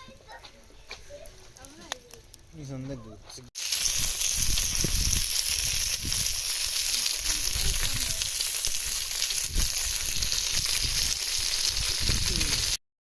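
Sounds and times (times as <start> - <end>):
campfire crackling and popping: 0.0 - 12.8.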